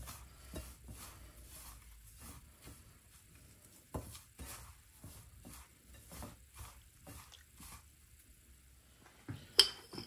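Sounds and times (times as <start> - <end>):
fingers rubbing spice powder: 0.0 - 8.3.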